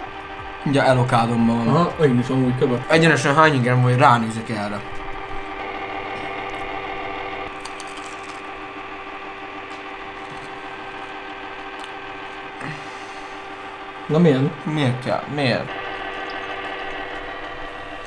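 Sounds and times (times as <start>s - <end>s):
small motor humming: 0.0s - 18.0s.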